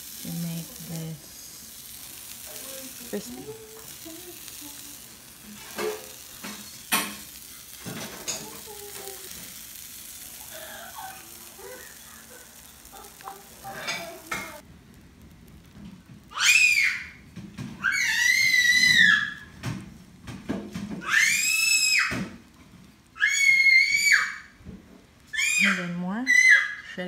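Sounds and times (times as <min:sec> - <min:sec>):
batter sizzling on hot plates: 0:00.0 - 0:27.0.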